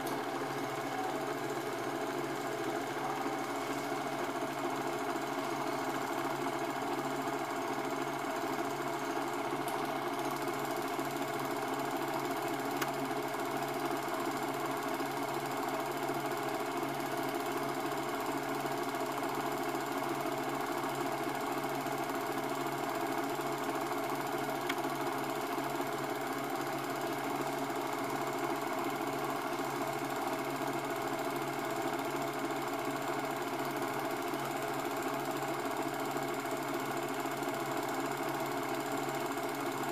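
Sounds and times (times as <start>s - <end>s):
film projector clattering: 0.0s - 39.9s.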